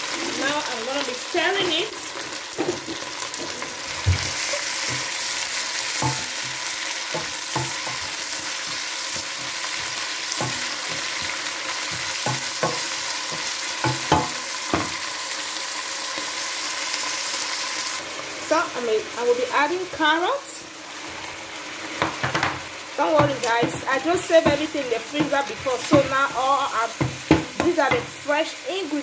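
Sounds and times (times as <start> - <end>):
vegetables sizzling in a pot: 0.0 - 29.0.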